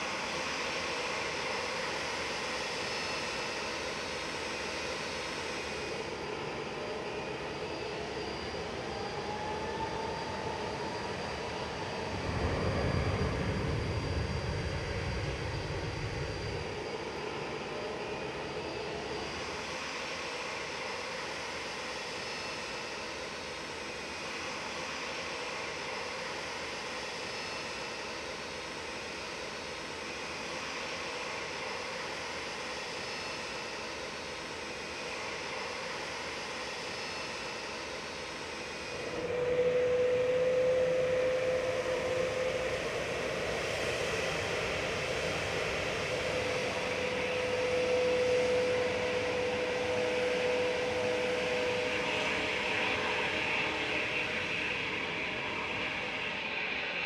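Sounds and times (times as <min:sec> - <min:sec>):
engine whine: 0:00.0 - 0:57.0
jet engines running: 0:00.0 - 0:57.0.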